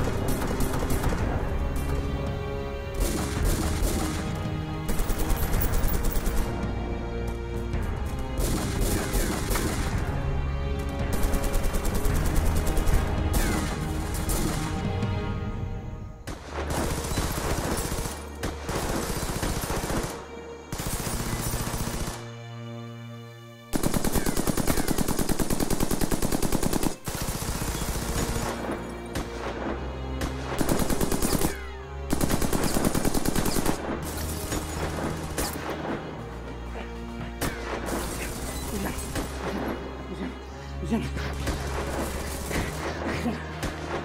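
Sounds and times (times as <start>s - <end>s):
dramatic music score: 0.0s - 44.0s.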